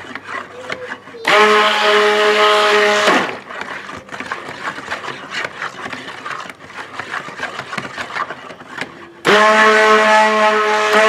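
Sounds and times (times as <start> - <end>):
stick blender motor hum: 0.0 - 11.0.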